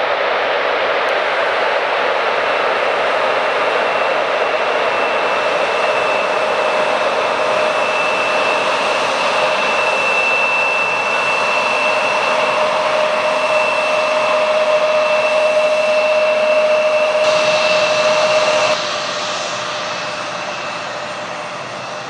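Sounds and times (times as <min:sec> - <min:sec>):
jet engines at taxi thrust: 0:00.0 - 0:22.0.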